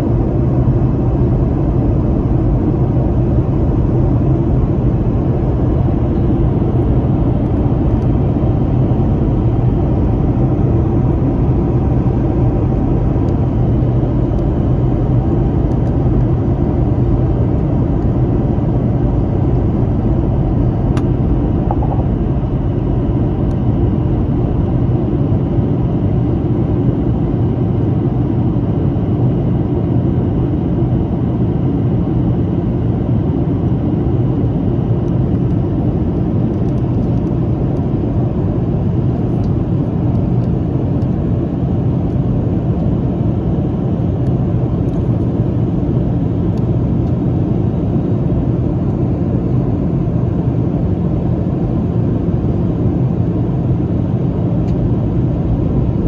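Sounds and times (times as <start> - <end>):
airplane cabin rumble: 0.0 - 56.0
low steady hum: 0.0 - 56.0.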